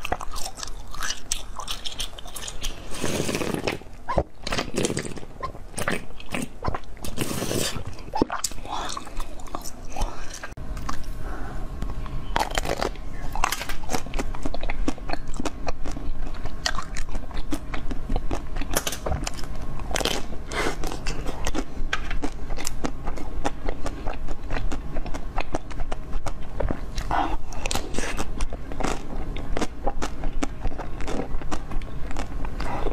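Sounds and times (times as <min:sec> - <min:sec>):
crunching frozen sweets: 0:00.0 - 0:32.9.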